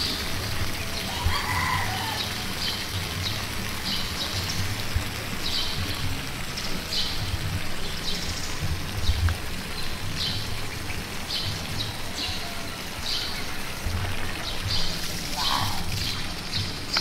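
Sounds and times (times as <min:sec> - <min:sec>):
water jet splashing on dirt: 0:00.0 - 0:17.0.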